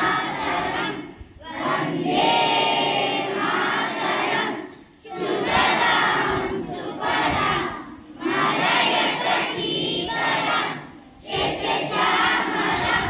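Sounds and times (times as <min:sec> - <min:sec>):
students chanting in unison: 0:00.0 - 0:13.0.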